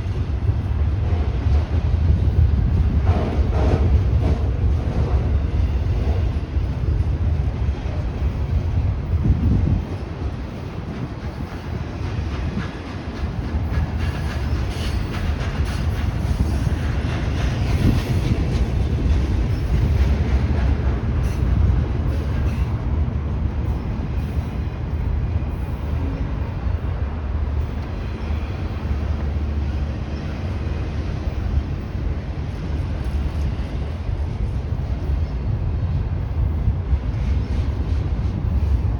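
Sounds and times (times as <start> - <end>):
train rumbling on the track: 0.0 - 38.9.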